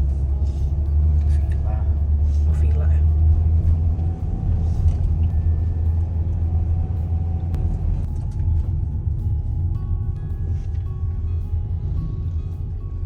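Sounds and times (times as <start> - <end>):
car road and engine rumble: 0.0 - 13.0
faint background music: 0.0 - 13.0.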